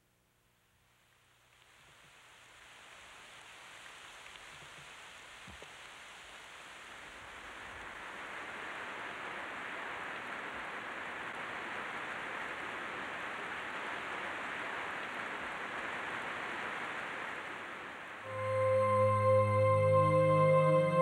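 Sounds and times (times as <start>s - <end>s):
heavy rain falling: 2.3s - 21.0s.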